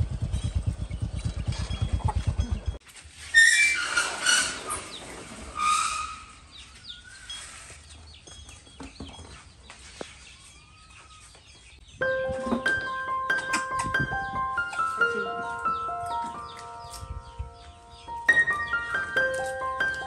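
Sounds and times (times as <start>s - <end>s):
small birds chirping: 0.0s - 2.8s, 6.3s - 20.0s.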